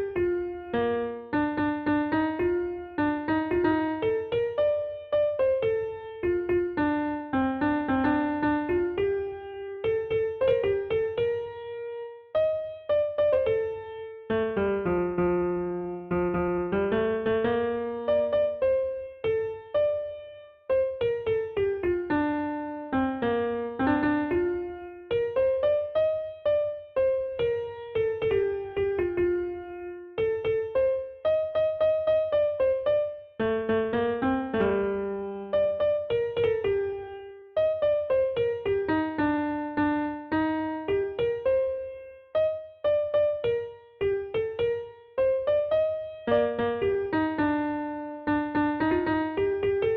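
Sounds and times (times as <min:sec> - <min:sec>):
electric piano melody: 0:00.0 - 0:49.9.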